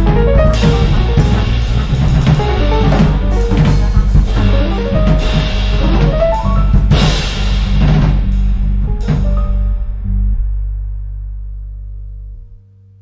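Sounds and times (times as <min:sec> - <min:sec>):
drum kit hits: 0:00.0 - 0:11.2
electric bass notes: 0:00.0 - 0:13.0.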